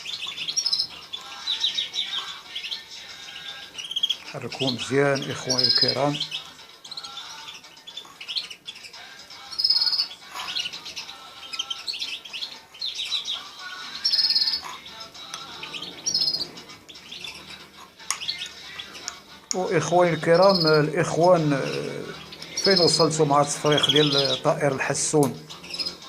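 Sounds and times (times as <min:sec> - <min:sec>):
finches chirping and singing: 0:00.0 - 0:26.0.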